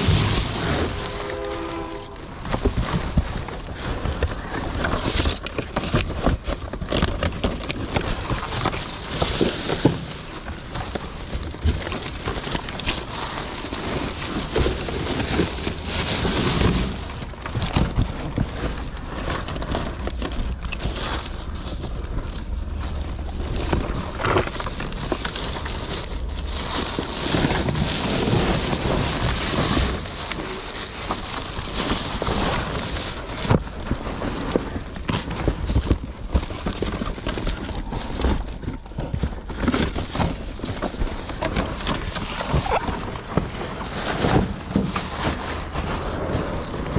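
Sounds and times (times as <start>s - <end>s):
paper and plastic rustling: 0.0s - 46.9s.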